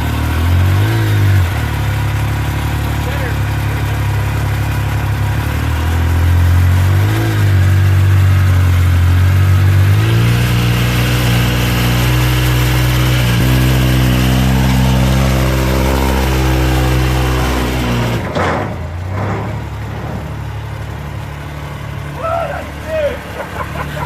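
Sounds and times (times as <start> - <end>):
engine running at low revs: 0.0 - 24.0.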